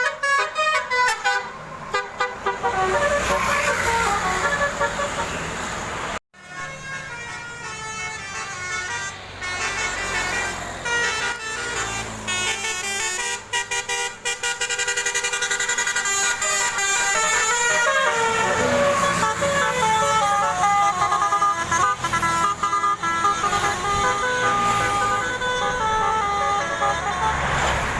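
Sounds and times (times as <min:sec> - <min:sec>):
bus horn playing a melody: 0:00.0 - 0:05.6, 0:06.4 - 0:27.9.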